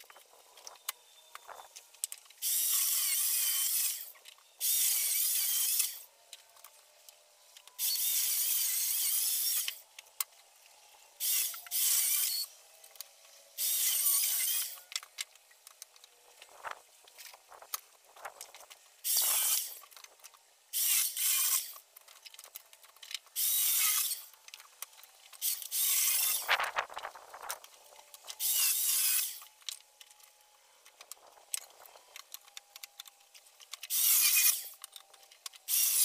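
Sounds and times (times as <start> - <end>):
saw cutting firewood: 0.0 - 36.0.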